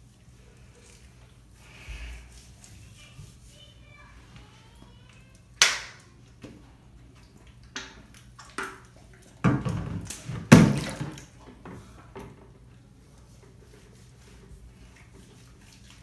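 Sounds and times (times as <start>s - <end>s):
water splashing in bathtub: 0.0s - 16.0s.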